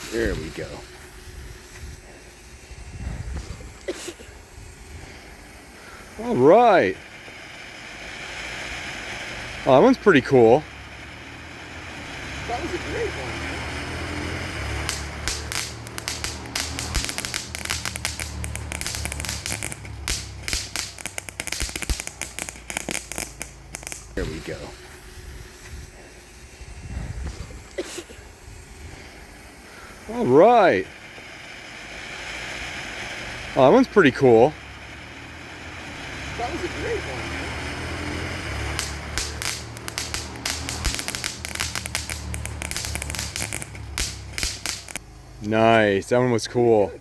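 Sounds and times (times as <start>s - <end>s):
firework crackling: 0.0s - 46.0s.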